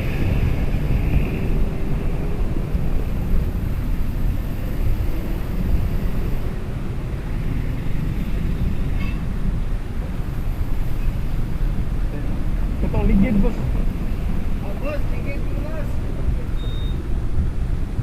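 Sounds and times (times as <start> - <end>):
vehicle noise: 0.0 - 18.0
wind rumble on microphone: 0.0 - 18.0.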